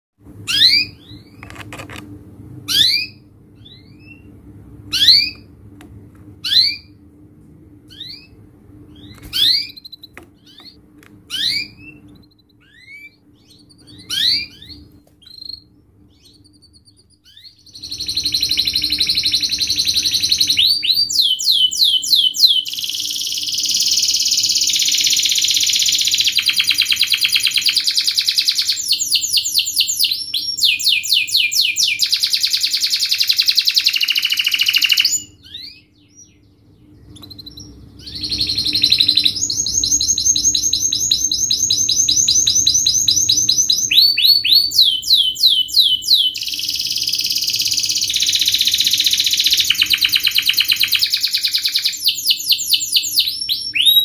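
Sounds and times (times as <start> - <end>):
canary singing: 0.4 - 2.0, 2.6 - 5.6, 6.4 - 7.1, 7.8 - 54.0.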